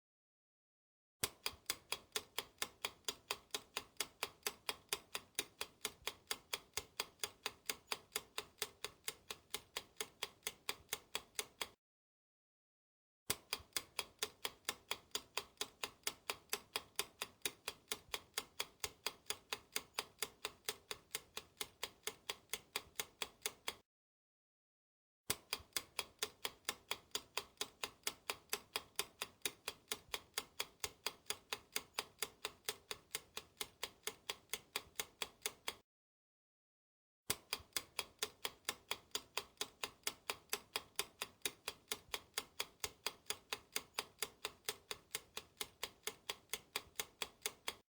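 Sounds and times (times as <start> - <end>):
clock ticking: 1.2 - 11.8, 13.3 - 23.8, 25.3 - 35.8, 37.3 - 47.9.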